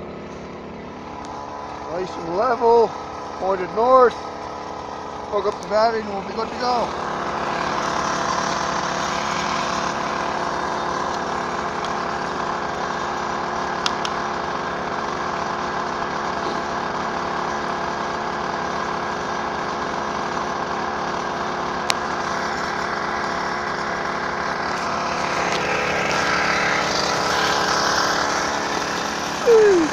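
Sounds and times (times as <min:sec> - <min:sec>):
small engine running: 0:00.0 - 0:29.9.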